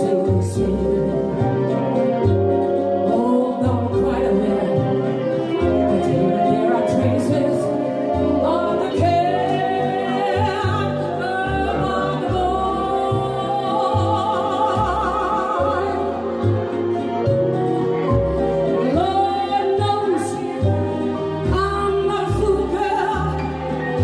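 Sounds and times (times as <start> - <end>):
woman singing into a microphone: 0.0 - 16.8, 18.7 - 24.0
backing music with bass line: 0.0 - 24.0.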